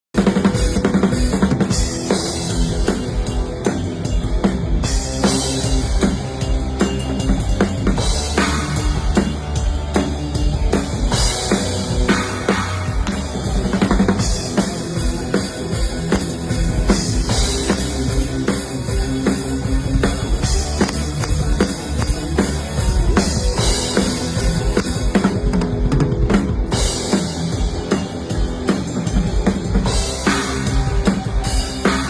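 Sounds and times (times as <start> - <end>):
rock band playing live: 0.0 - 32.0
sustained bass notes: 0.2 - 32.0.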